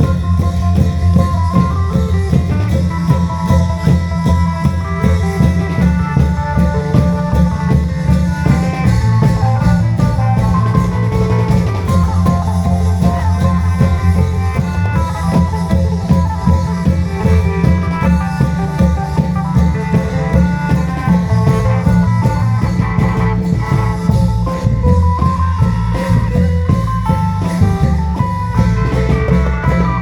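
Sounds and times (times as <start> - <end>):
busy melody line: 0.0 - 30.0
drums and cymbals beat: 0.0 - 30.0.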